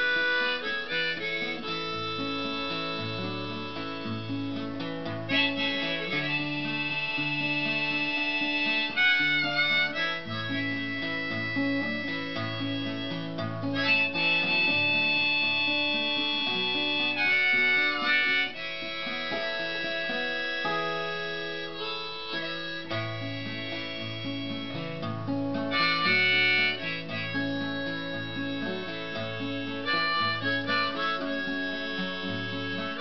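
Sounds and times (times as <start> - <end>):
acoustic guitar picking: 0.0 - 33.0
harmonica: 0.0 - 33.0.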